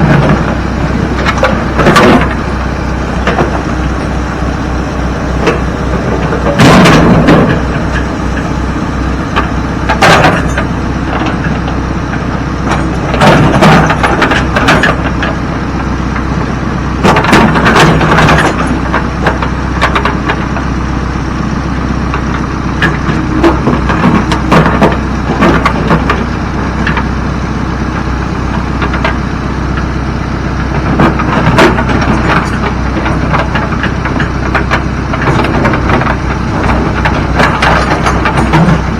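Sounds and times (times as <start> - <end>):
heavy machinery engine running: 0.0 - 38.9.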